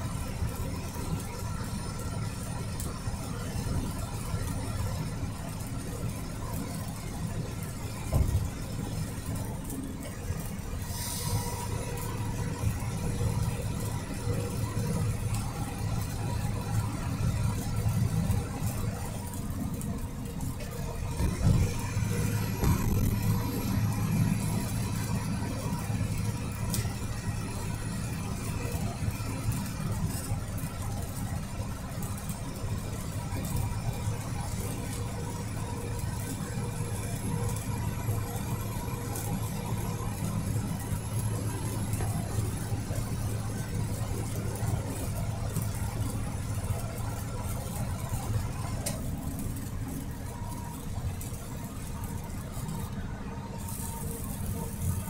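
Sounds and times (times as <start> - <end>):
vehicle engine hum: 0.0 - 55.0
tyre and road noise: 0.1 - 55.0.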